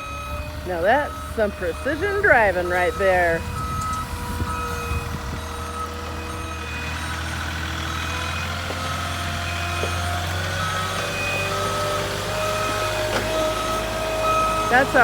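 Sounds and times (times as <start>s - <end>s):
reversing alarm beeping: 0.0s - 15.0s
truck engine idling: 0.0s - 15.0s.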